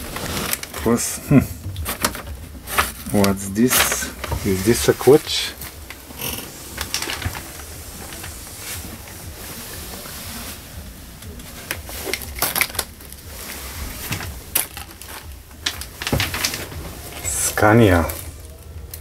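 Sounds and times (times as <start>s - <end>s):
paper tag rustling: 0.0s - 18.7s.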